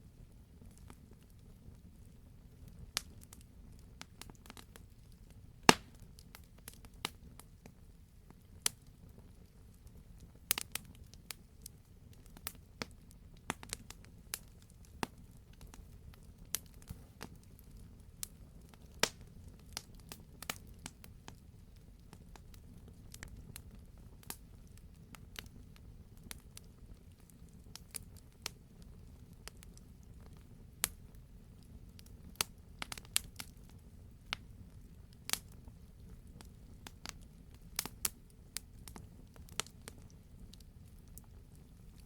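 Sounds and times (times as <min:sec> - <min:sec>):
wood fire crackling and popping: 0:00.1 - 0:42.0.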